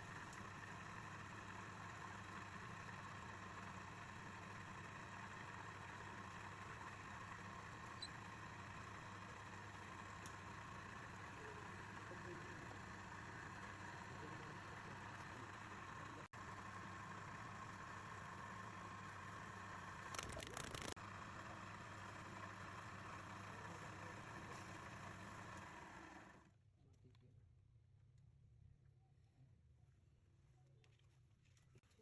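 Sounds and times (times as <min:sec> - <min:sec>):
lathe motor humming: 0:00.0 - 0:26.4.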